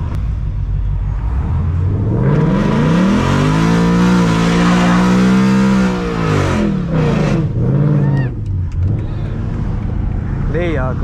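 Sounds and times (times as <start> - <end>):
car engine revving high: 0.0 - 10.5.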